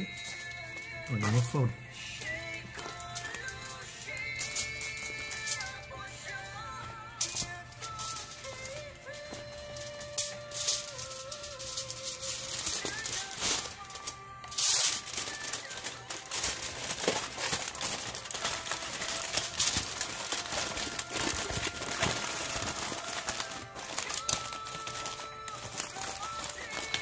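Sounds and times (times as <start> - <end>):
aluminium foil crinkling: 0.0 - 27.0
quiet background music: 0.0 - 27.0.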